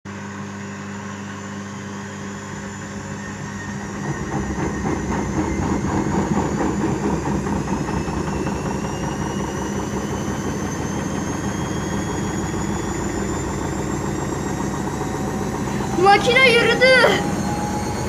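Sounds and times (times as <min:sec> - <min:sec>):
washing machine spinning: 0:00.1 - 0:18.0.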